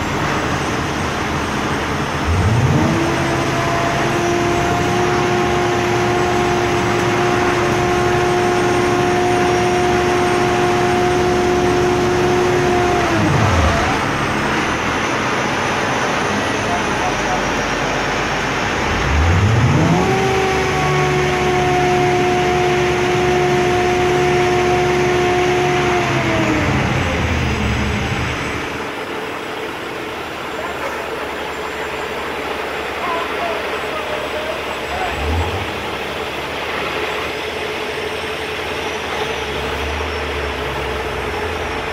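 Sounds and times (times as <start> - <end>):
diesel engine revving and whining: 0.0 - 41.9.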